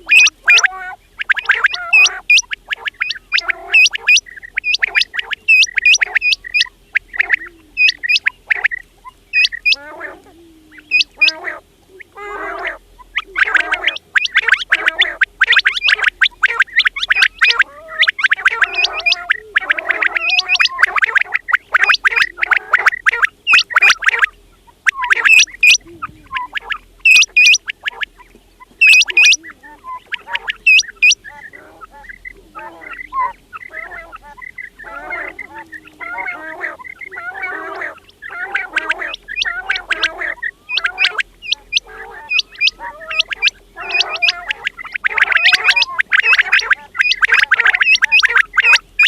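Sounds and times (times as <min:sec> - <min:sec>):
high upward-sweeping bird calls: 0:00.0 - 0:09.8, 0:10.8 - 0:11.5, 0:12.4 - 0:49.0
quails chattering: 0:00.0 - 0:49.0.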